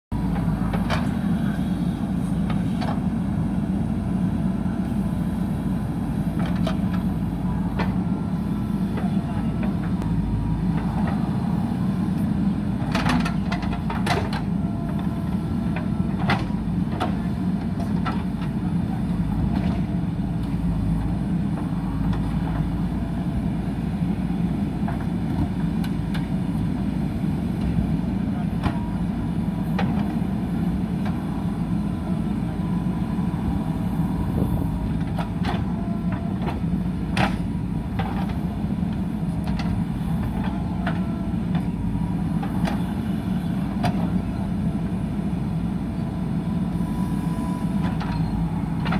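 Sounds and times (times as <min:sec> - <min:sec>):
diesel engine running under load: 0:00.1 - 0:48.9.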